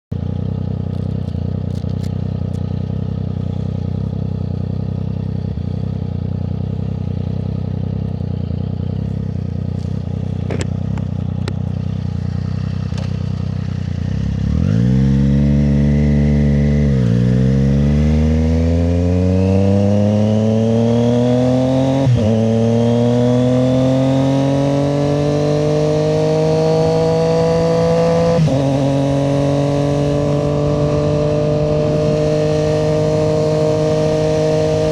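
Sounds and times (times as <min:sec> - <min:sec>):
motorcycle engine idling and accelerating: 0:00.1 - 0:34.9.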